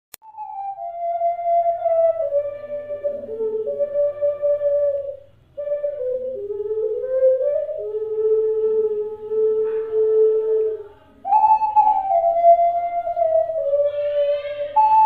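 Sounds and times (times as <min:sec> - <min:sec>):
ocarina playing slow melody: 0:00.2 - 0:15.0.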